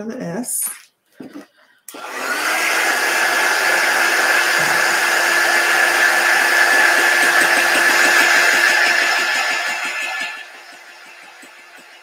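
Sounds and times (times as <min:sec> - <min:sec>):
heat tool fan blowing: 0:01.9 - 0:12.0.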